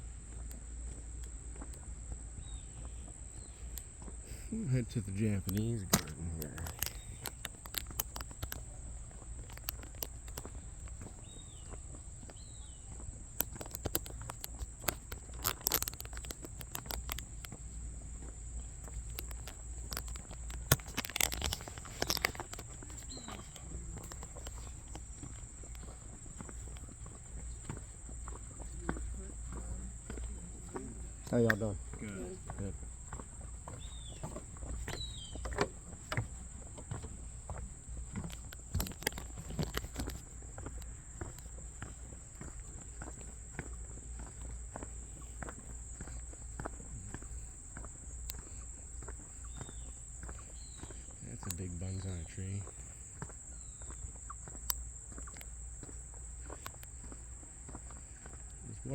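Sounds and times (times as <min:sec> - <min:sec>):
insects droning: 0:00.0 - 0:58.9
footsteps crunching on path: 0:00.1 - 0:58.9
faint bird chirps: 0:02.4 - 0:07.8, 0:08.6 - 0:13.1, 0:15.8 - 0:38.1, 0:40.6 - 0:58.9.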